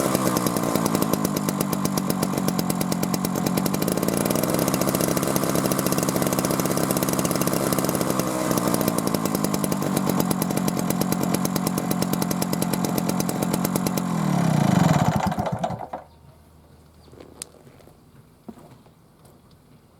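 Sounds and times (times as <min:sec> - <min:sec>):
two-stroke stationary engine running: 0:00.0 - 0:16.1.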